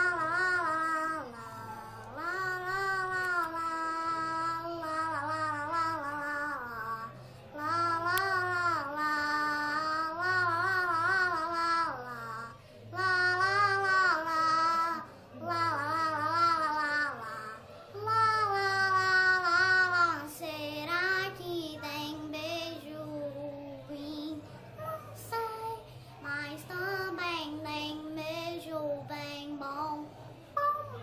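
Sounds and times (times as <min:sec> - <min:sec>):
boy singing: 0:00.0 - 0:31.0.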